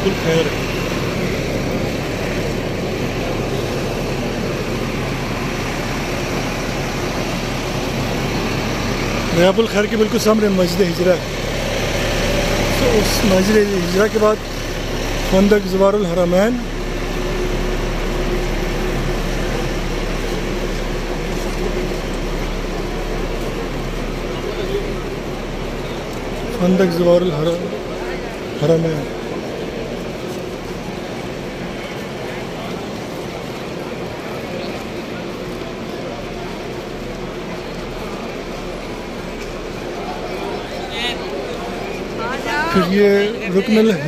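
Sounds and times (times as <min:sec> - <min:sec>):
air-conditioning hum: 0:00.0 - 0:44.0
bus engines idling: 0:00.0 - 0:44.0
street traffic: 0:00.0 - 0:44.0.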